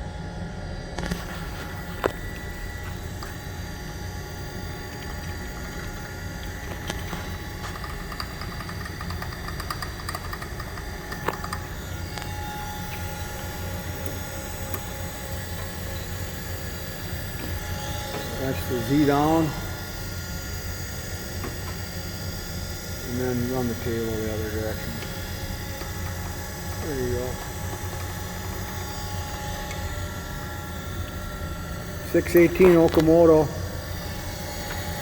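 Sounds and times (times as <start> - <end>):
surface grinder humming: 1.0 - 35.0.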